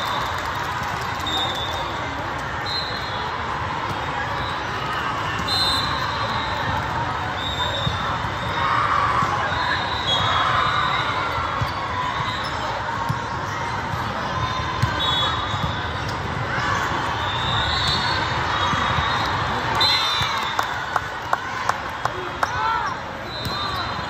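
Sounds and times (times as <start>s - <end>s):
crowd chatter and shouts: 0.0s - 24.0s.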